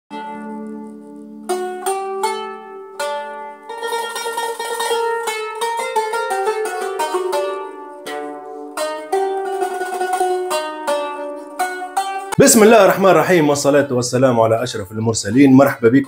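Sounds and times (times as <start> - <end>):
plucked string instrument music: 0.1 - 16.0.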